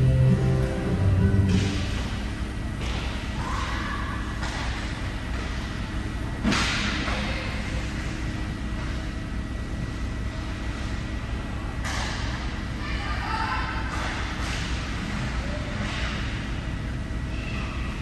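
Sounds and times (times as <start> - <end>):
low rumble of arena: 0.0 - 18.0.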